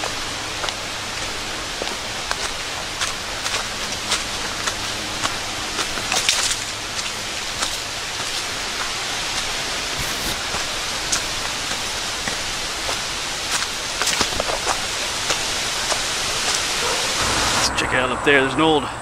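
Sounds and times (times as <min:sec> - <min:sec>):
footsteps crunching: 0:00.0 - 0:17.7
outdoor hiss: 0:00.0 - 0:18.9.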